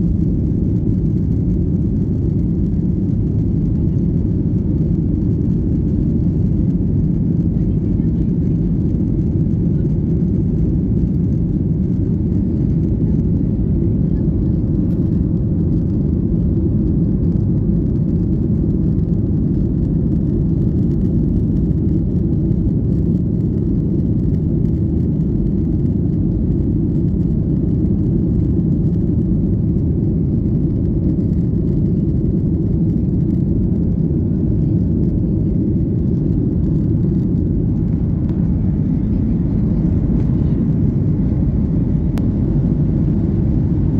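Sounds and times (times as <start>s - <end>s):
jet airliner cabin roar: 0.0s - 43.9s.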